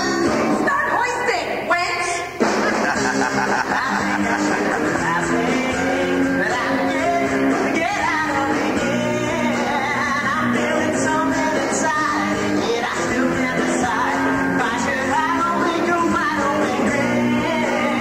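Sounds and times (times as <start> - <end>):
rock band playing: 2.4 - 18.0
voices singing: 2.6 - 18.0.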